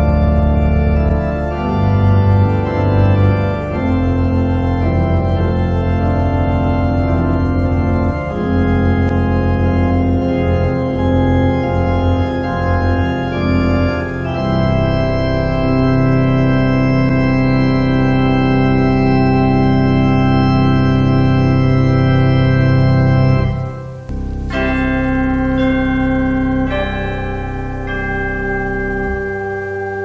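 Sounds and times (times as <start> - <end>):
organ playing sustained chords: 0.0 - 30.0.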